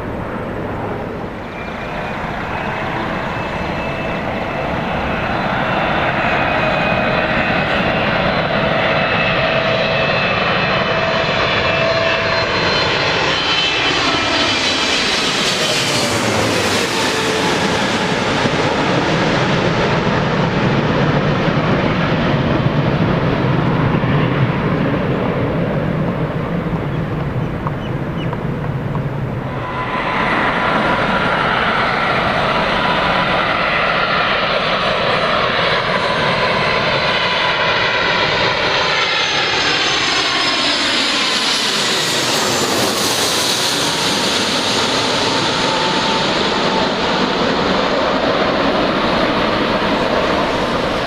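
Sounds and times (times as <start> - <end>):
jet airliner flying past: 0.0 - 51.0.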